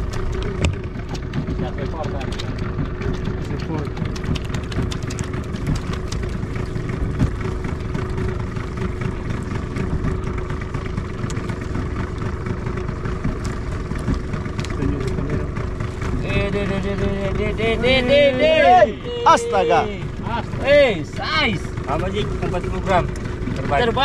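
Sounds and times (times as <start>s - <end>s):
boat engine idling: 0.0s - 24.0s.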